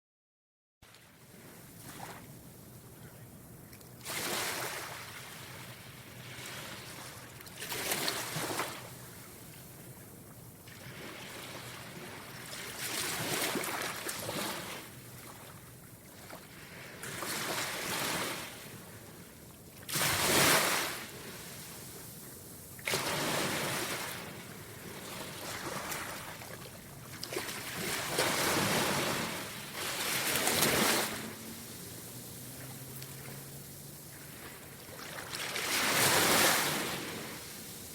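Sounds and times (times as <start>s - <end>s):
ocean waves breaking: 0.9s - 3.0s, 4.0s - 10.0s, 10.6s - 37.9s.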